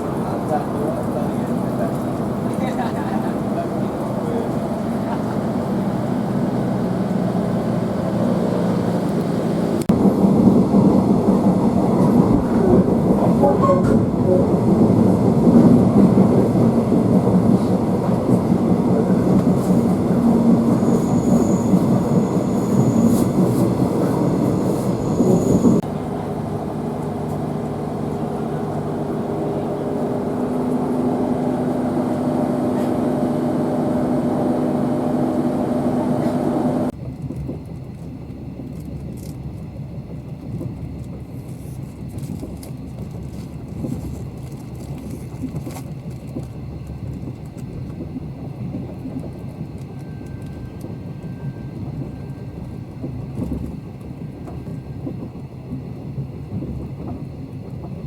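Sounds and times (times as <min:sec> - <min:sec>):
train humming: 0:00.0 - 0:58.0.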